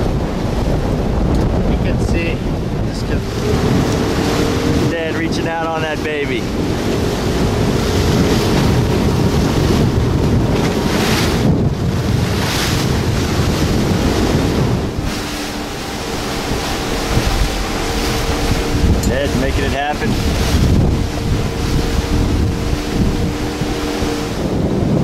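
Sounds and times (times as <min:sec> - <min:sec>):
choppy water slapping: 0:00.0 - 0:25.0
wind buffeting microphone: 0:00.0 - 0:25.0.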